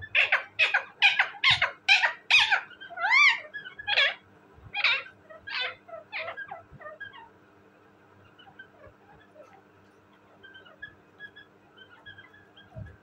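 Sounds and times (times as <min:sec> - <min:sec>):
parakeet shrill calls: 0:00.0 - 0:07.3, 0:08.2 - 0:12.9.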